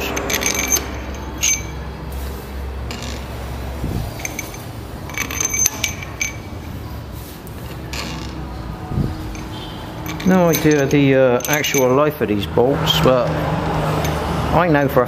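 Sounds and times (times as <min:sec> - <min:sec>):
metal bolts clinking: 0:00.0 - 0:12.4, 0:13.3 - 0:14.3.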